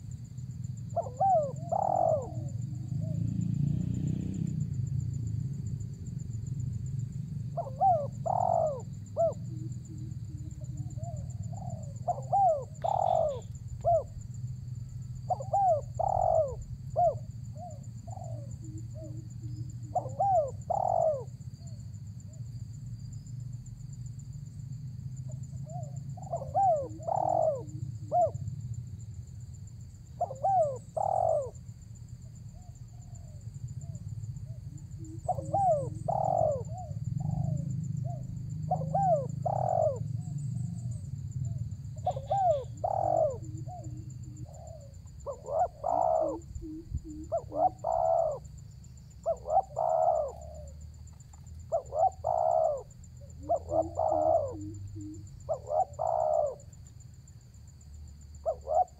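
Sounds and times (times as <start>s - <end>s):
dove cooing: 0.0s - 3.7s, 7.3s - 22.5s, 25.3s - 28.6s, 30.1s - 56.8s, 58.4s - 58.9s.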